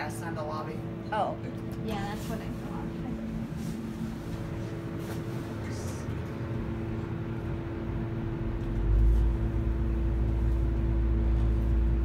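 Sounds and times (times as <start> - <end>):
elevator car rumble: 0.0 - 12.0
ventilation fan hum: 0.0 - 12.0.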